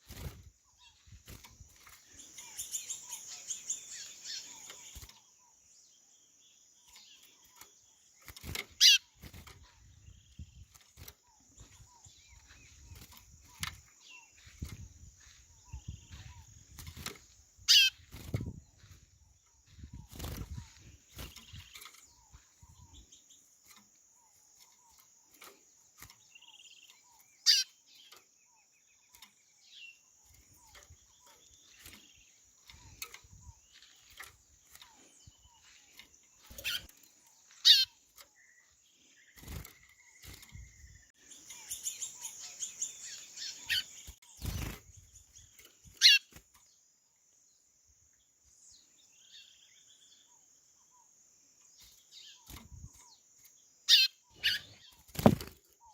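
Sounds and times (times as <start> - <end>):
birds calling sharply: 0.0 - 46.9, 48.6 - 55.9
soft bird chirps: 0.0 - 55.9.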